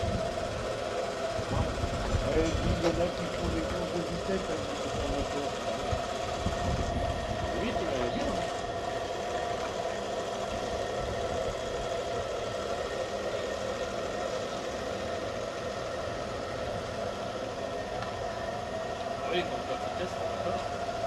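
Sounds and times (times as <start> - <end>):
small motor humming: 0.0 - 21.0.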